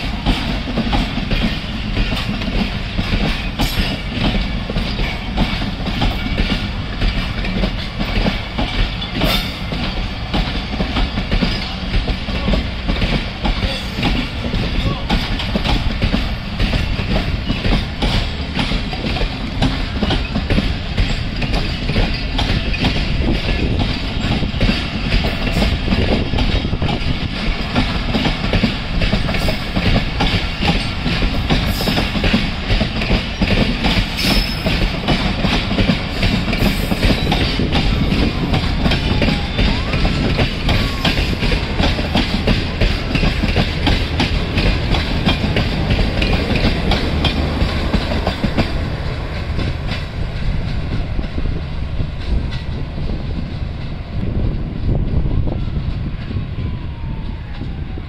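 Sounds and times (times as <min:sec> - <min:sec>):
train wheels clacking over joints: 0:00.0 - 0:54.0.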